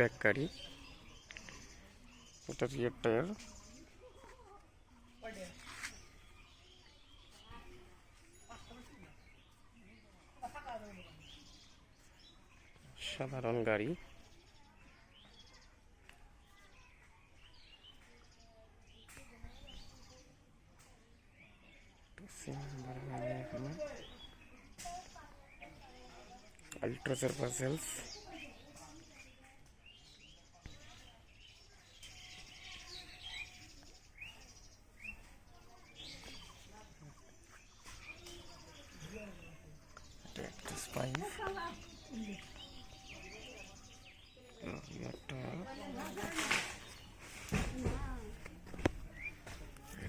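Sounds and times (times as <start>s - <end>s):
distant birds chirping: 0.0s - 50.0s
faint outdoor background noise: 0.0s - 50.0s.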